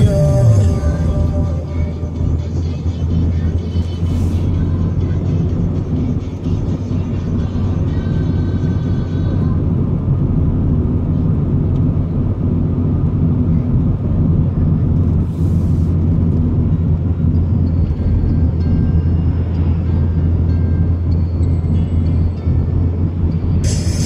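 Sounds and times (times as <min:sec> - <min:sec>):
car cabin road and engine drone: 0:00.0 - 0:24.0.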